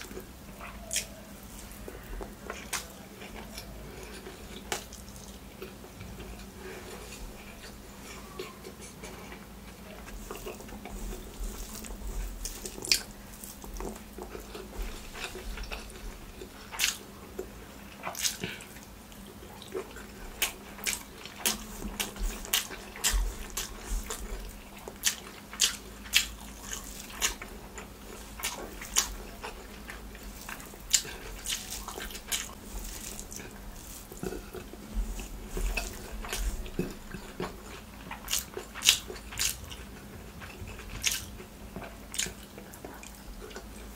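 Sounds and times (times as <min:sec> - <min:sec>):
fingers squishing rice and curry: 0:00.0 - 0:43.9
wet chewing: 0:00.0 - 0:43.9.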